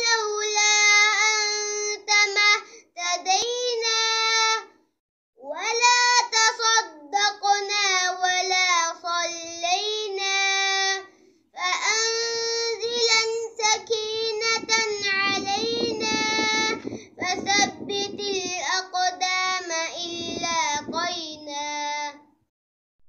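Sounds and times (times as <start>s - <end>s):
child singing: 0.0s - 4.7s, 5.4s - 22.4s.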